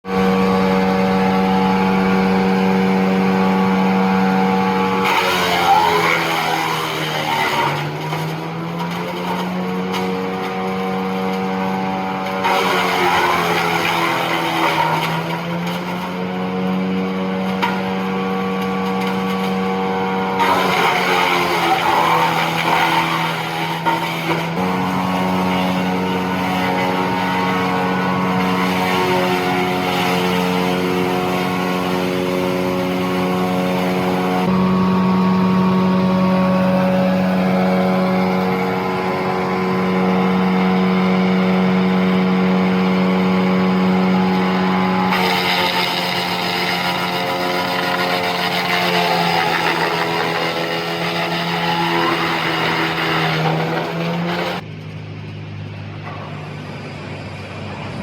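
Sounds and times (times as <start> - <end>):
wood chipper engine drone: 0.0 - 58.0.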